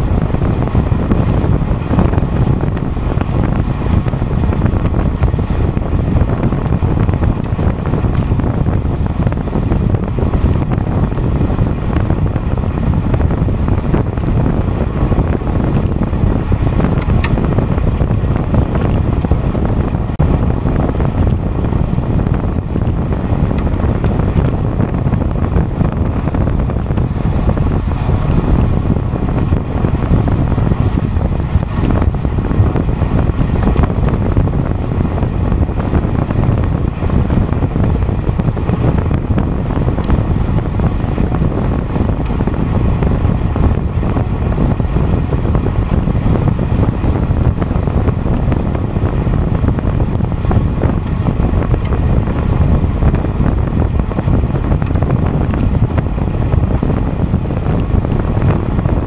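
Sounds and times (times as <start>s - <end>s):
wind blowing across microphone: 0.0s - 59.0s.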